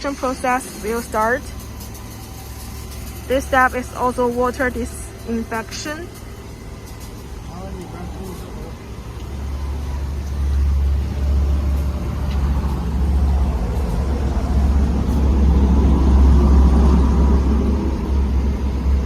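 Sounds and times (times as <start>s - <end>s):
spraying water hiss: 0.0s - 18.3s
pump humming: 0.0s - 19.0s.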